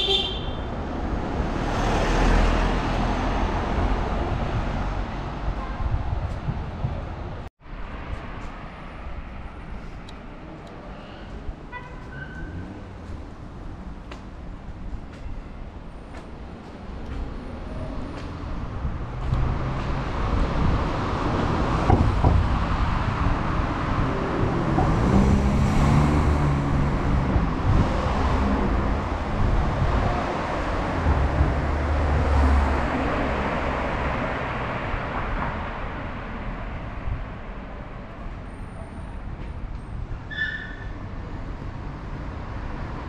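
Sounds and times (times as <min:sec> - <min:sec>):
vehicles passing close by: 0:00.0 - 0:43.0.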